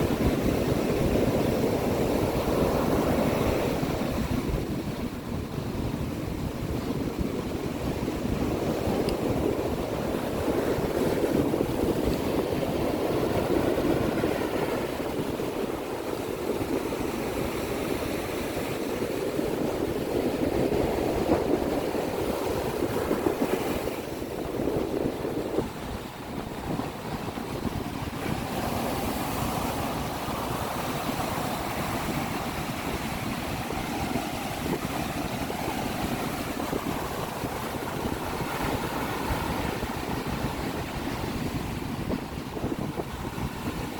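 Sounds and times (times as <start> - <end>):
sea waves washing ashore: 0.0 - 43.9
wind buffeting microphone: 0.0 - 43.9.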